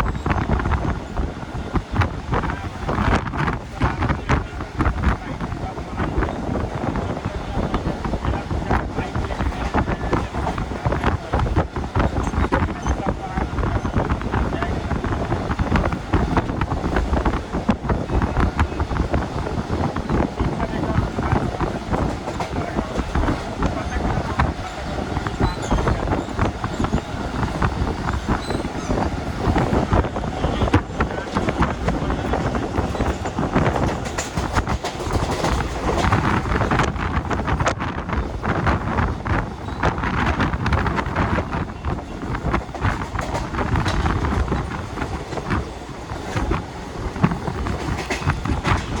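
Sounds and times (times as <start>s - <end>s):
train rumbling and rattling: 0.0s - 49.0s.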